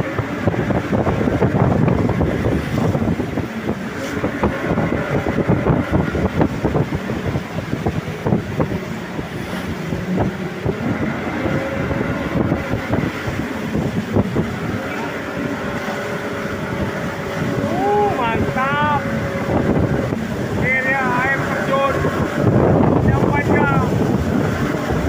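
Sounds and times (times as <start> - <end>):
motorboat engine running: 0.0 - 25.0
rushing river rapids: 0.0 - 25.0
wind buffeting microphone: 0.0 - 25.0.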